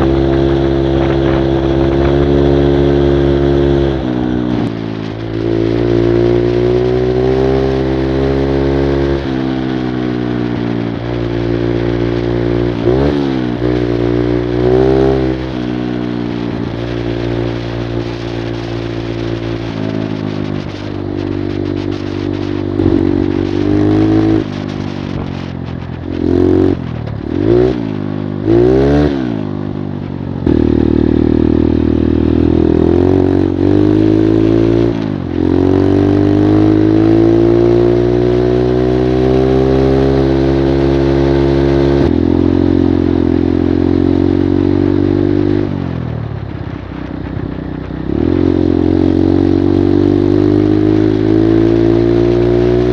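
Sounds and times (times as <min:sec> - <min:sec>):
moped engine revving: 0:00.0 - 0:52.9.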